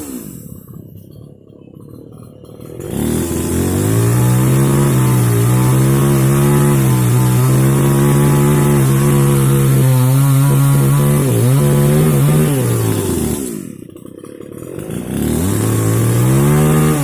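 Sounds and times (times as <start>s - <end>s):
mini chainsaw revving: 0.0s - 0.8s, 2.5s - 17.0s.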